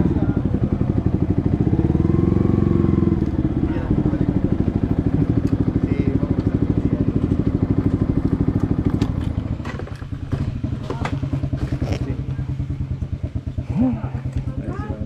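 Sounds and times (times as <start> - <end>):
motorcycle engine pulsing: 0.0 - 15.0.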